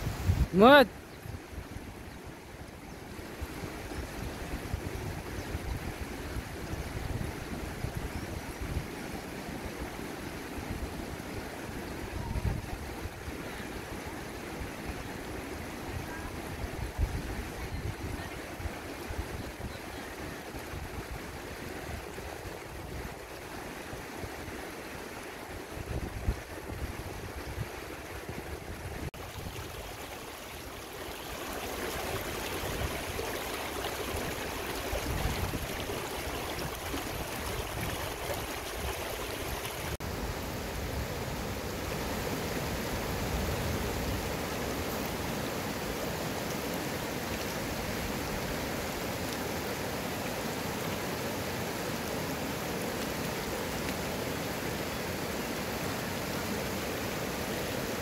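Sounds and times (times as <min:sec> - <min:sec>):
river rushing over rocks: 0:09.3 - 0:58.0.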